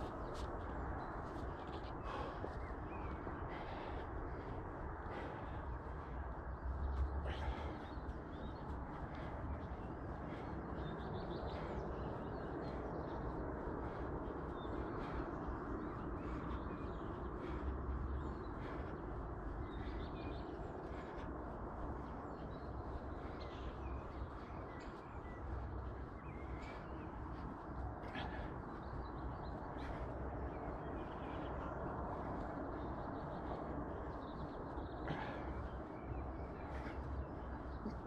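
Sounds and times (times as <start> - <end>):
birds chirping and calling: 0.0 - 38.0
outdoor rushing noise: 0.0 - 38.0.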